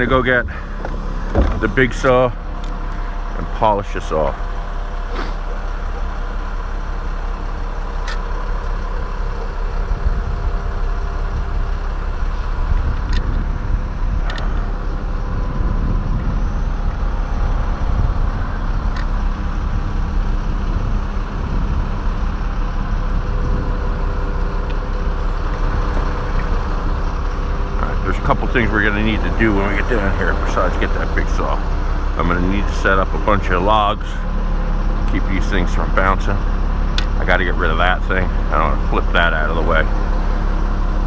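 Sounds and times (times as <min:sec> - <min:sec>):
large engine running: 0:00.0 - 0:41.0.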